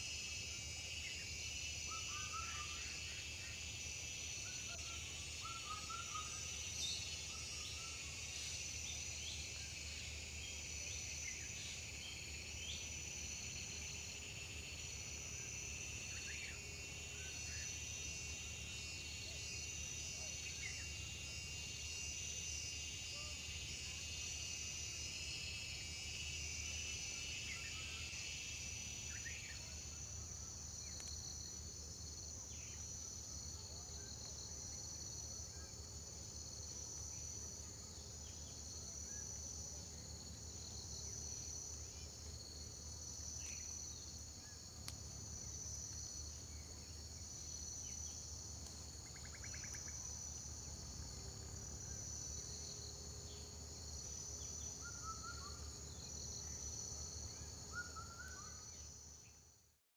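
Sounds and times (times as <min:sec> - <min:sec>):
pulsing insect chorus: 0:00.0 - 0:59.8.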